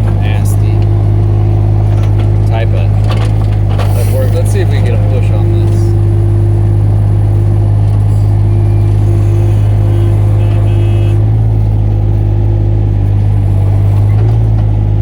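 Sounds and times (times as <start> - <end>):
excavator engine droning: 0.0 - 15.0.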